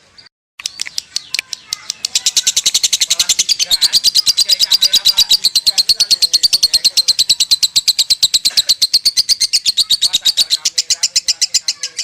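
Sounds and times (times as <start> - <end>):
bird chattering trill: 0.6 - 12.0.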